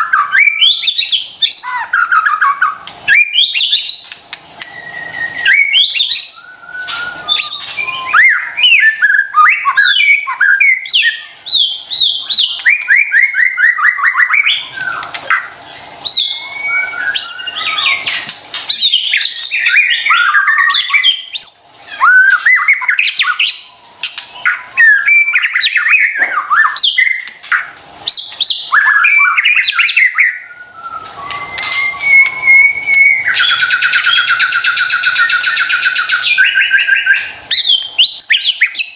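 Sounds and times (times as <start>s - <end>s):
songbird whistled song: 0.0s - 38.9s.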